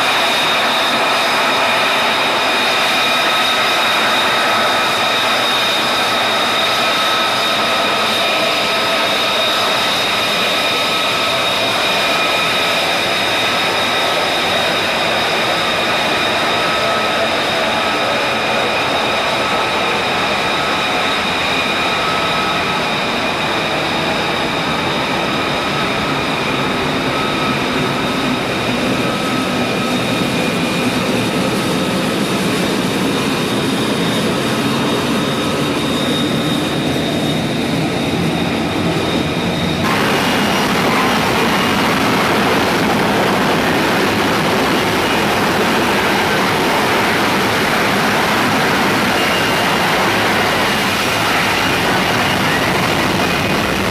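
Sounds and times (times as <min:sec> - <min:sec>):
high turbine whine: 0:00.0 - 0:53.9
jet engine roar: 0:00.0 - 0:53.9.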